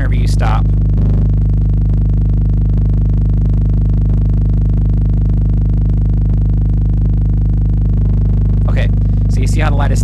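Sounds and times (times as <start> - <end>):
low test tone through subwoofer: 0.0 - 10.0.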